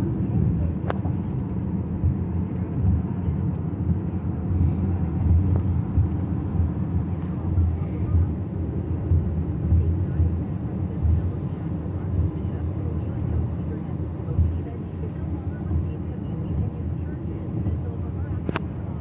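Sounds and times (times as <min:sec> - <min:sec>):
road and engine rumble in car: 0:00.0 - 0:19.0.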